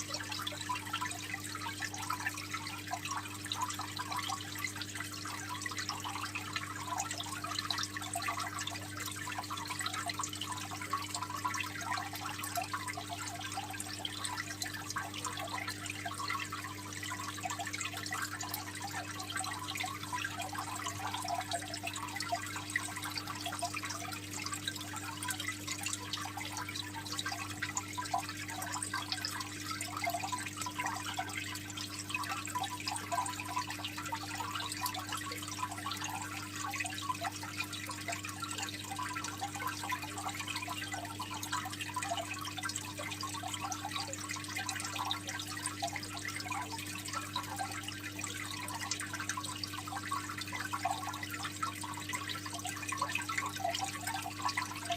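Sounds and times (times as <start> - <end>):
aquarium water trickling: 0.0 - 54.9.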